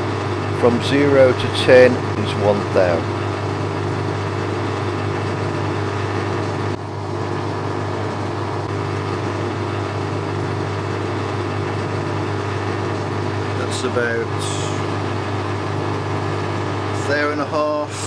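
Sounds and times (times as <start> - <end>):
lathe motor humming: 0.0 - 18.0.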